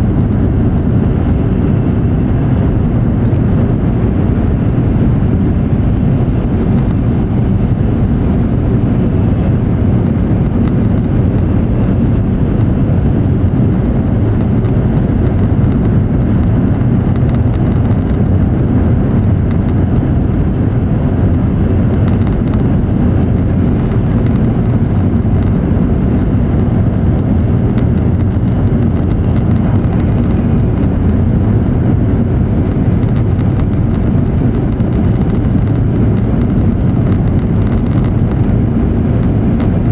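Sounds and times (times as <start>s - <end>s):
train interior deep rumble: 0.0s - 39.9s.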